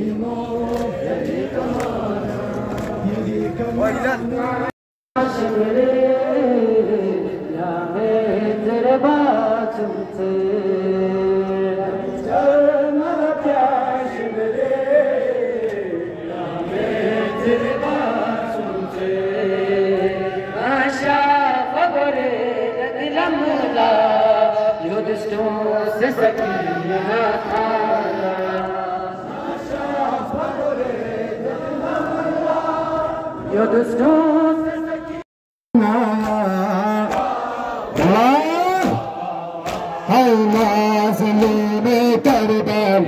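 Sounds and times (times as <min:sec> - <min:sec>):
men chanting a lament: 0:00.0 - 0:35.2, 0:35.8 - 0:43.0.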